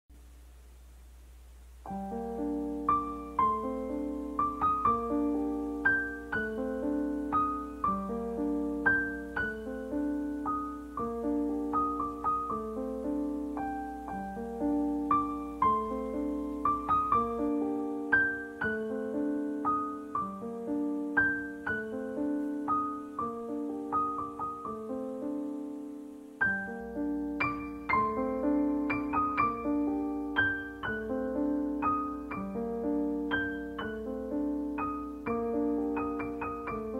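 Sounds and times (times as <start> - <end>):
gentle piano notes: 1.8 - 36.9.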